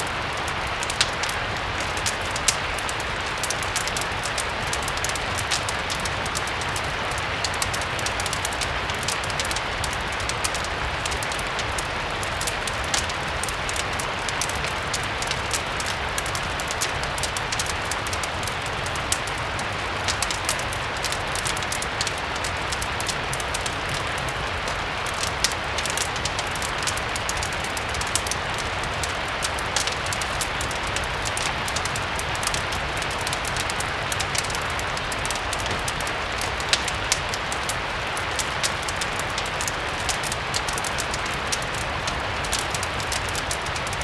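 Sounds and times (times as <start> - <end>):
fire crackling: 0.0 - 44.0
rain hiss: 0.0 - 44.0.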